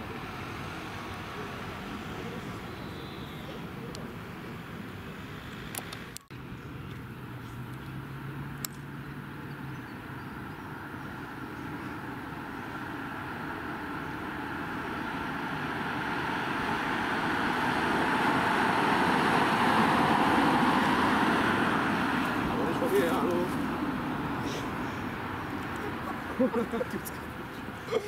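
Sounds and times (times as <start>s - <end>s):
vehicle approaching: 0.0s - 28.0s.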